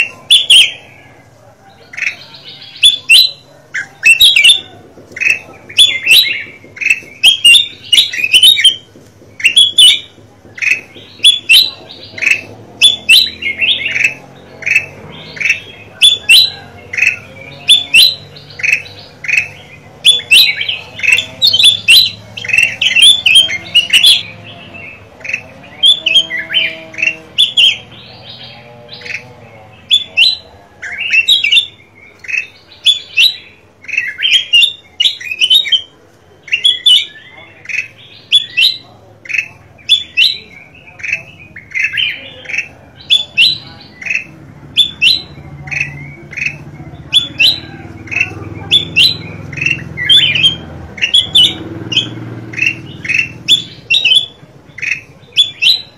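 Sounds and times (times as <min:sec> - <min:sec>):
bulbul chirping: 0:00.0 - 0:55.9.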